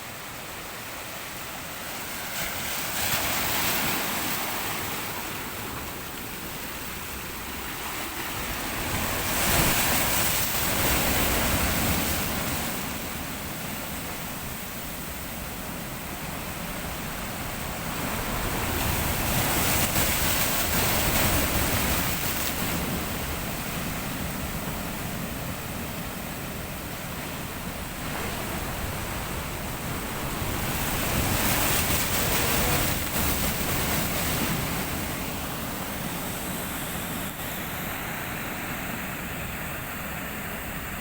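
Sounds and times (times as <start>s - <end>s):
sea waves breaking on shore: 0.0s - 41.0s.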